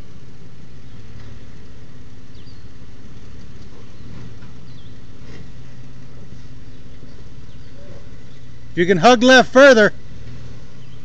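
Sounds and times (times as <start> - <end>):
engine running at low speed: 0.0 - 11.0.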